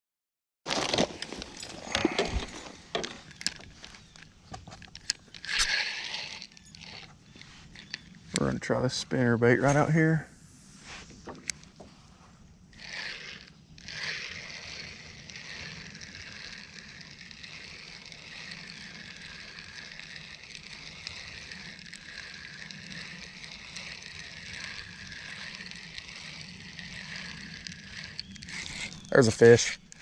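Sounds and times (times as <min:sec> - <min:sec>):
fishing reel whirring: 0:01.5 - 0:10.3, 0:10.9 - 0:30.0.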